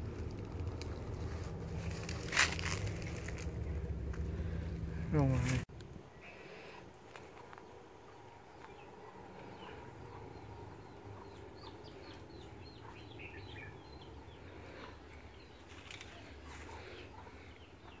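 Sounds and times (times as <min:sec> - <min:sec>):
faint low outdoor rumble: 0:00.0 - 0:18.0
small birds chirping: 0:00.2 - 0:18.0.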